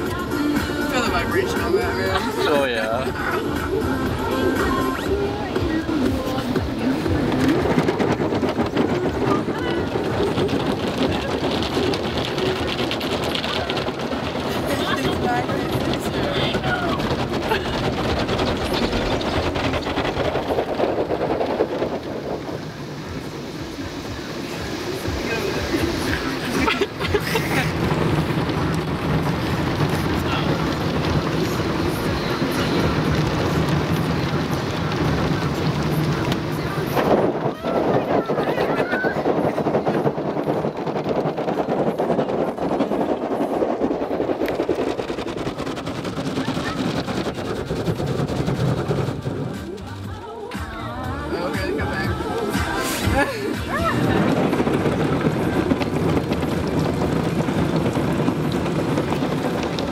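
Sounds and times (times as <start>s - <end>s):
car wash spray drumming on car: 0.0s - 59.9s.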